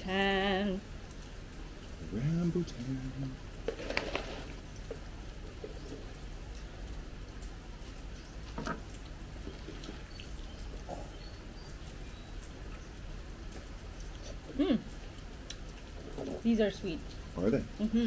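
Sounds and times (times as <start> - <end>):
birds calling faintly: 2.6 - 17.8.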